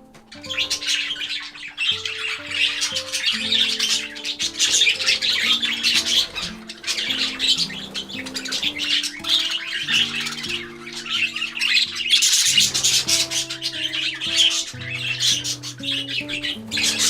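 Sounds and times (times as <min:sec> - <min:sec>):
background music with held notes: 0:00.0 - 0:17.0
budgerigars chirping: 0:00.0 - 0:17.0.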